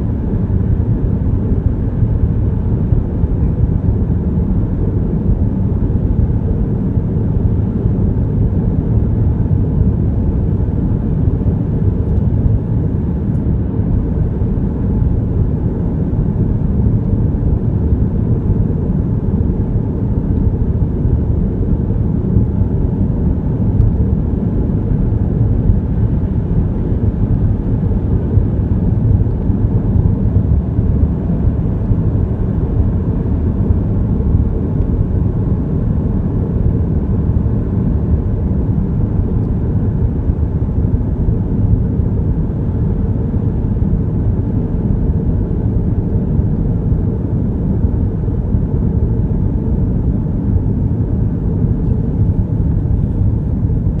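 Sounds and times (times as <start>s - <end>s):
car engine rumble: 0.0s - 54.0s.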